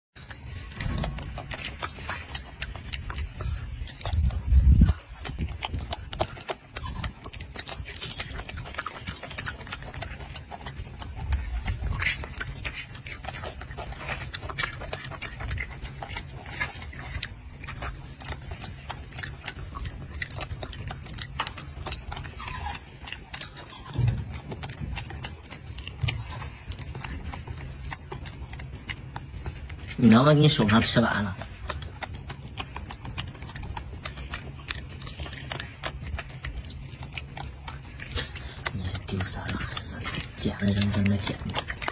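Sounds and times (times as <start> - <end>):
monkey chewing wetly: 0.2 - 41.9
steady low rumble: 0.5 - 41.9.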